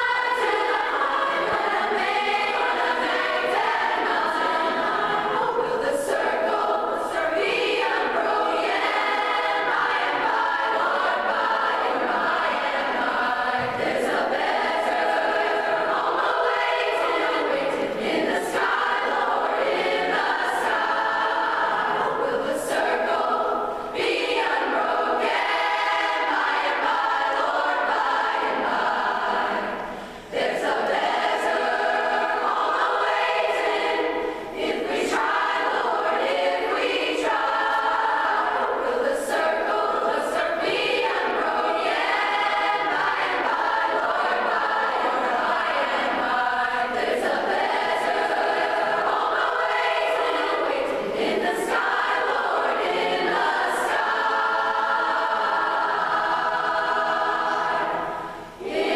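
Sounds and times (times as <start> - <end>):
large mixed choir singing: 0.0 - 58.9.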